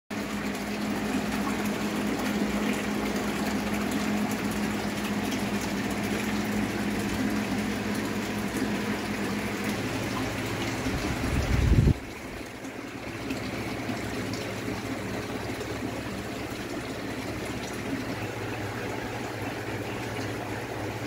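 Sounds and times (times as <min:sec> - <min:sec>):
pump low hum: 0:00.1 - 0:21.0
rushing water: 0:00.1 - 0:21.0.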